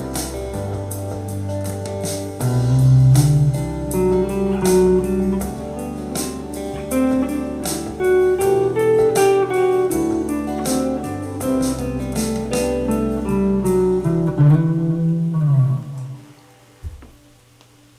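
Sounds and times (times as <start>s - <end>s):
drum backing track: 0.0s - 16.2s
electric guitar through amp: 0.0s - 17.2s.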